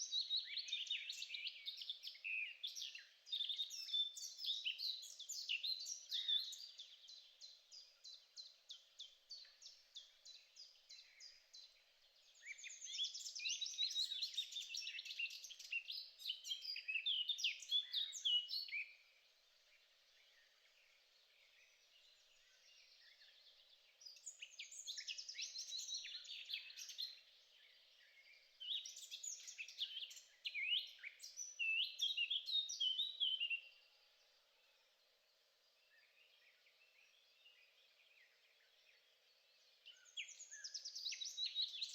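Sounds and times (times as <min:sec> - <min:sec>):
songbird chirps and trills: 0:00.0 - 0:41.9.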